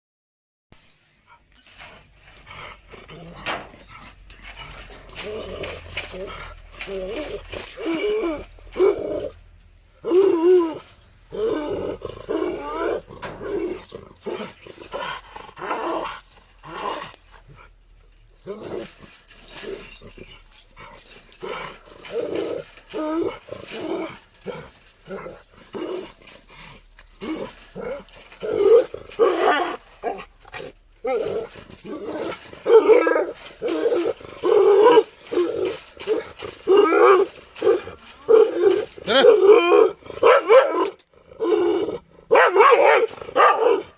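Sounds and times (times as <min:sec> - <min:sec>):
dog barking and growling: 0:01.2 - 0:43.9.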